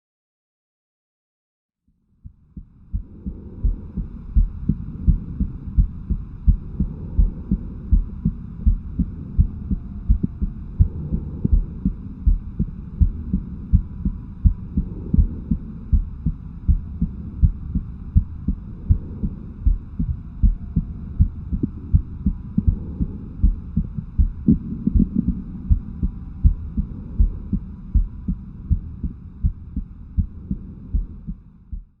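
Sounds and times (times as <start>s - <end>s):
faint low hum: 1.9s - 32.0s
heartbeat thumps: 2.2s - 32.0s.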